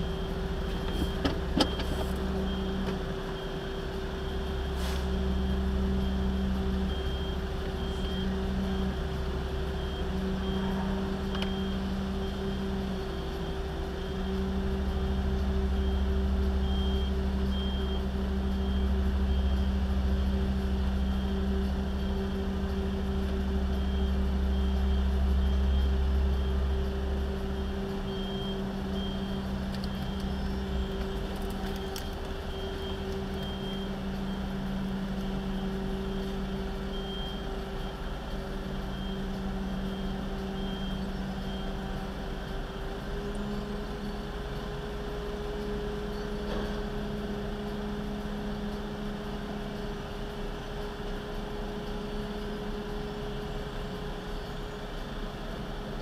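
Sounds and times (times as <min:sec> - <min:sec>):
heavy truck engines rumbling: 0:00.0 - 0:56.0
truck backup alarm beeping: 0:00.0 - 0:56.0.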